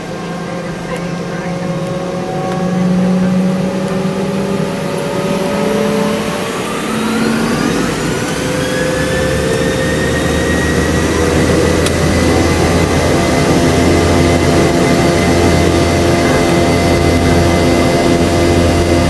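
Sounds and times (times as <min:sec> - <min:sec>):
deep hum: 0:00.0 - 0:19.0
jet engines spooling up: 0:00.0 - 0:19.0.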